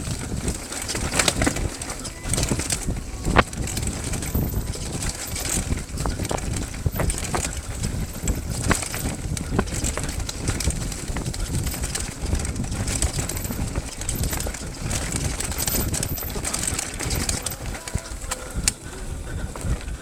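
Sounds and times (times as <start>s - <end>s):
steady rumbling: 0.0s - 20.0s
wind on microphone: 0.0s - 20.0s.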